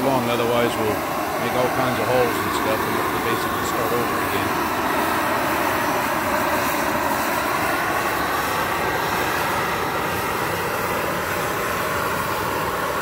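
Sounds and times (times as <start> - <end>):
propane heat gun burning: 0.0 - 13.0.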